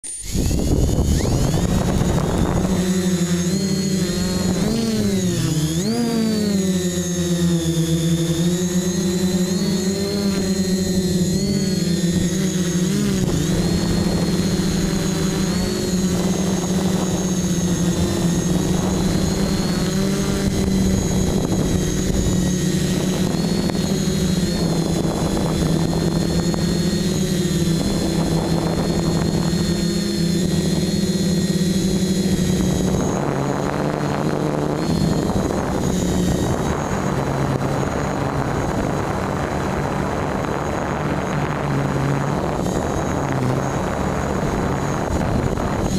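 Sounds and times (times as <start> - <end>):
drone propellers buzzing: 0.0 - 45.9.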